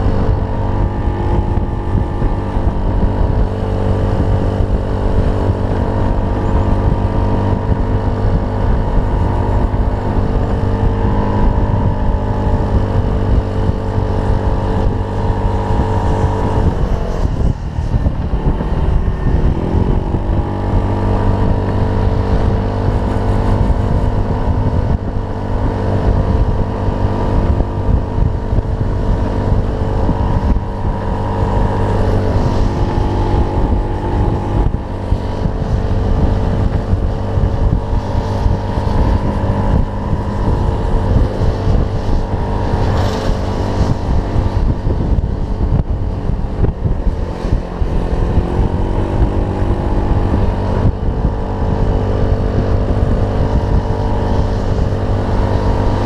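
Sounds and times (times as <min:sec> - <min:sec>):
scooter engine running: 0:00.0 - 0:56.0
wind rumbling on microphone: 0:00.0 - 0:56.0.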